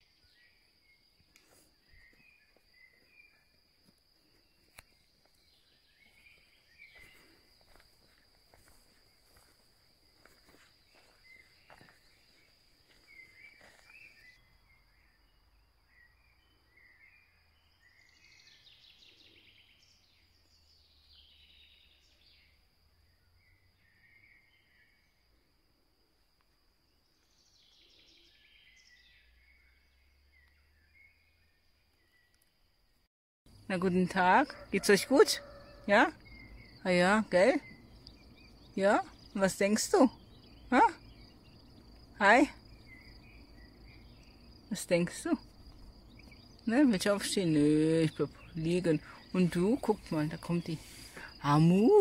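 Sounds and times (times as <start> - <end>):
distant songbird phrases: 0.0 - 25.8, 26.8 - 52.0.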